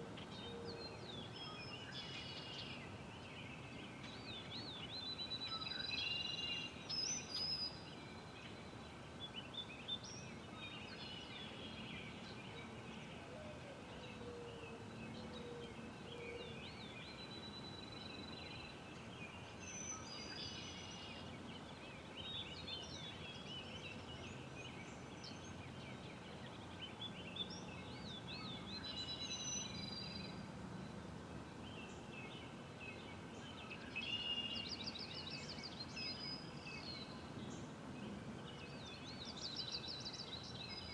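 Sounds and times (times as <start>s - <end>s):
songbirds chirping and trilling: 0.0s - 40.9s
steady background hiss: 0.0s - 40.9s.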